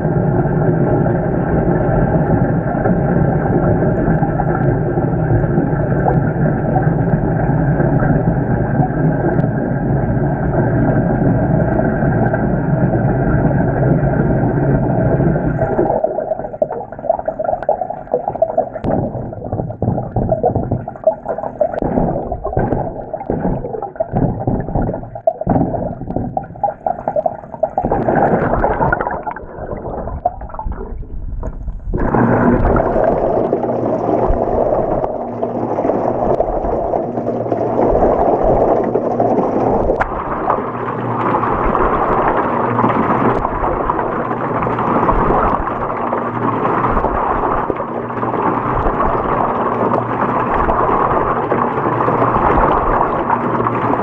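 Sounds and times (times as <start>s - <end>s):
washing machine churning: 0.0s - 31.1s, 31.9s - 54.0s
water pouring into washing machine: 0.0s - 31.2s, 31.9s - 54.0s
water gurgling and sloshing: 0.0s - 54.0s.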